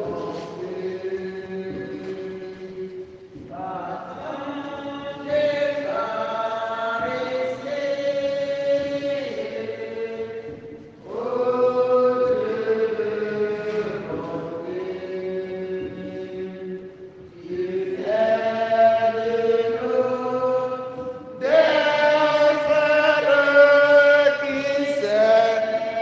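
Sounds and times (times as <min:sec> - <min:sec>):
slow sung hymn: 0:00.0 - 0:26.0.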